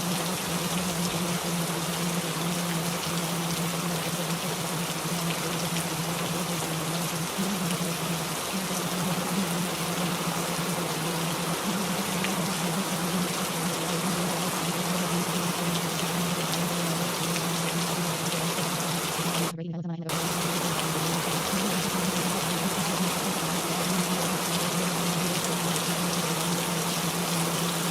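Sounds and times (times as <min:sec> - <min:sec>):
rain hissing: 0:00.0 - 0:19.5, 0:20.1 - 0:27.9.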